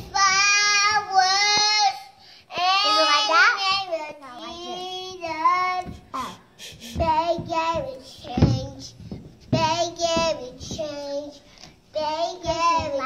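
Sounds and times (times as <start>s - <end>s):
toddler girl singing: 0.0s - 13.0s.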